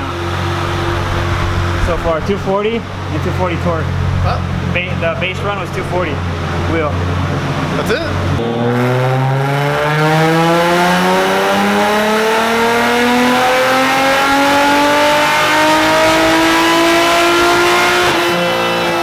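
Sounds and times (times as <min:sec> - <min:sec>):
car engine revving at full throttle: 0:00.0 - 0:19.0.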